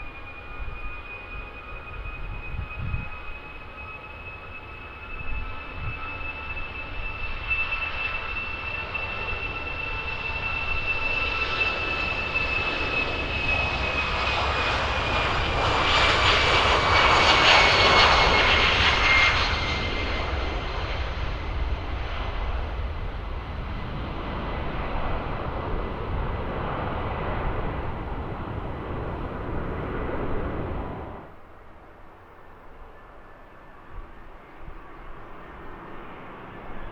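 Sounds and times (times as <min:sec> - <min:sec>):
jet aircraft engines whining: 0:00.0 - 0:36.9.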